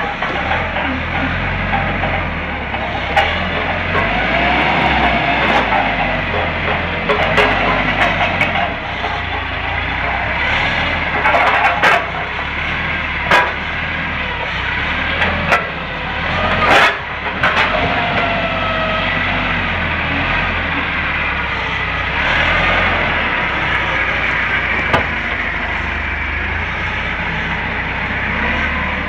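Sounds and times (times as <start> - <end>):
forklift engine running: 0.0 - 29.0.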